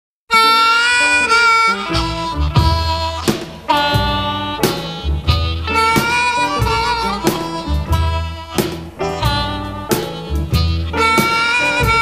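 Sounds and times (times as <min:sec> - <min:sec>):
bass: 0:00.3 - 0:12.0
wind instrument melody: 0:00.3 - 0:12.0
drum hits: 0:02.4 - 0:12.0.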